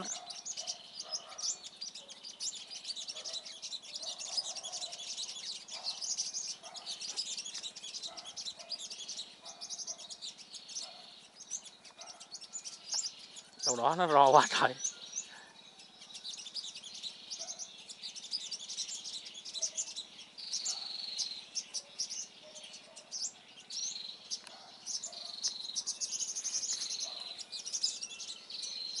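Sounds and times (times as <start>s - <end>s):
sunbirds chipping and trilling: 0.0s - 29.0s.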